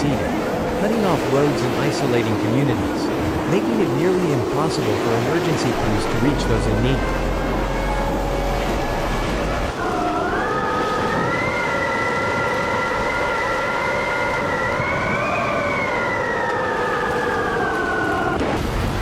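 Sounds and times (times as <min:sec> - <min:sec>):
siren wailing: 0:00.0 - 0:19.0
steady rushing noise: 0:00.0 - 0:19.0.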